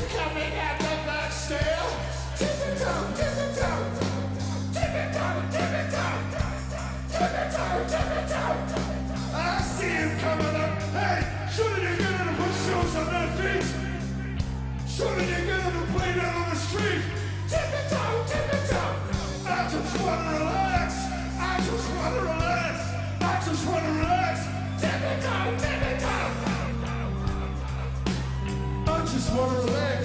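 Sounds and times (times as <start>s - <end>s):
live rock band playing: 0.0s - 30.0s
low held bass notes: 0.0s - 30.0s
person singing and yelling: 0.0s - 30.0s.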